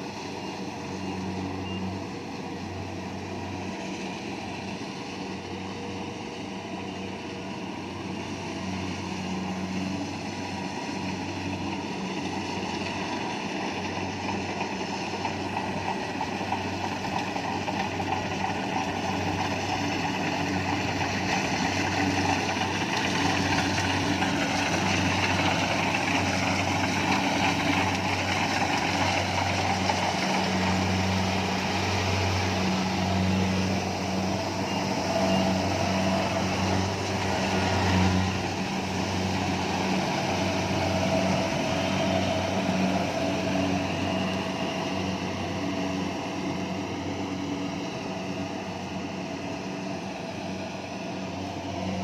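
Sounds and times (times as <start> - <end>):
diesel engine running under load: 0.0 - 52.0
harvesting machinery clatter and whir: 0.0 - 52.0.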